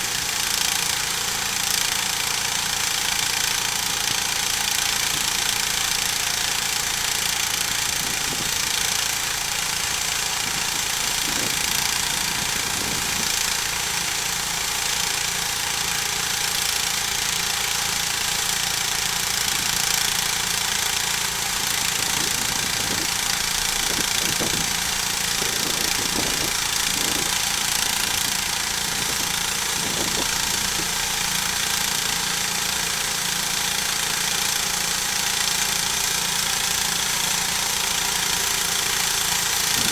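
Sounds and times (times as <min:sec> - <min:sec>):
sawmill cutting log: 0:00.0 - 0:39.9.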